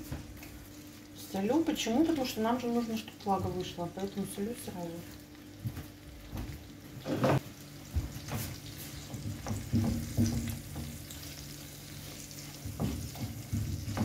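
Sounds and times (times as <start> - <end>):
mushrooms and onion frying: 0.0 - 14.0.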